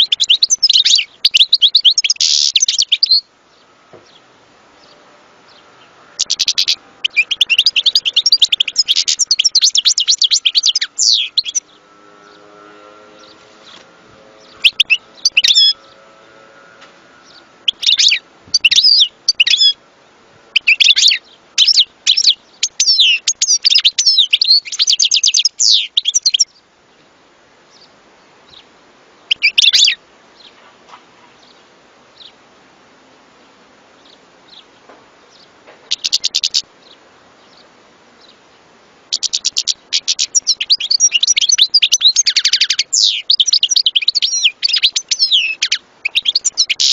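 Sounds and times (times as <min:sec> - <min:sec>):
bird twittering and trilling: 0:00.0 - 0:04.2, 0:04.8 - 0:19.8, 0:20.5 - 0:26.7, 0:29.3 - 0:30.6, 0:34.0 - 0:38.4, 0:39.1 - 0:46.9.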